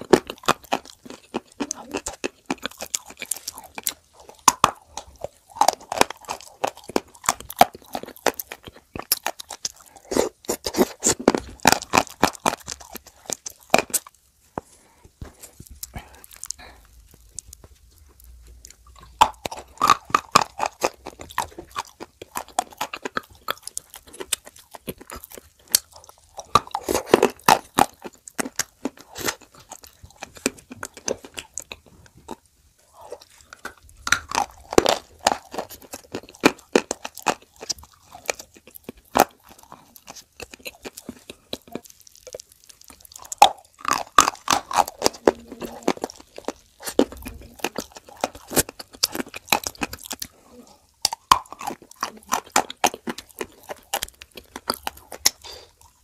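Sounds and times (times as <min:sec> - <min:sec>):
dry clay crunching when bitten: 0:00.0 - 0:14.2, 0:15.2 - 0:56.0
chewing: 0:00.0 - 0:56.0.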